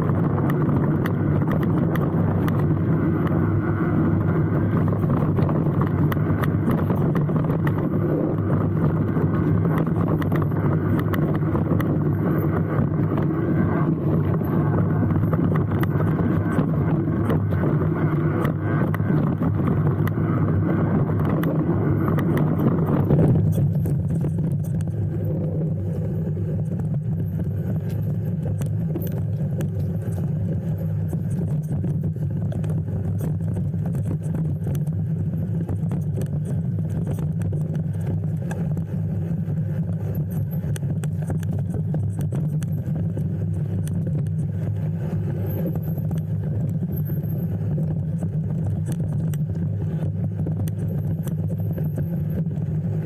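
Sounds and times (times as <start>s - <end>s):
road vehicle engine and road noise: 0.0s - 53.0s.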